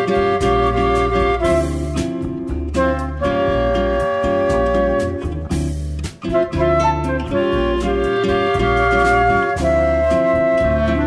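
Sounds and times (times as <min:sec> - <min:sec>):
bass line: 0:00.0 - 0:11.0
held melody notes: 0:00.0 - 0:11.0
light percussion: 0:00.0 - 0:11.0.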